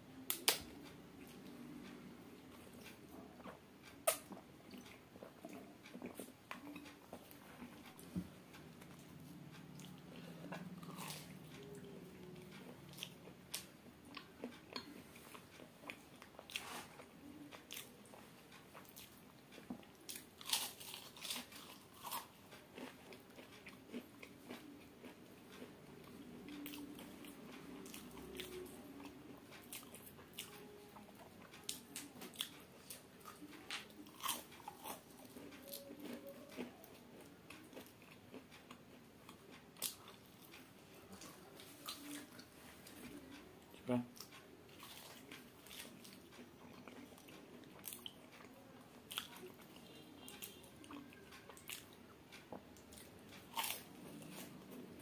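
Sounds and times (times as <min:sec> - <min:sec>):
crunchy chewing: 0:01.2 - 0:55.0.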